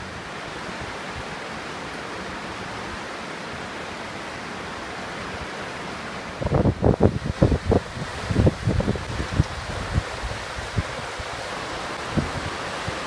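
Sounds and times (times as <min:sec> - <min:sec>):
river rushing in flood: 0:00.0 - 0:13.0.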